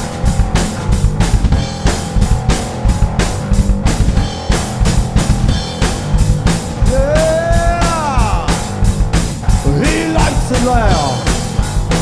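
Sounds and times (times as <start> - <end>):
drum kit with cymbal hits: 0.0 - 12.0
electric bass guitar: 0.0 - 12.0.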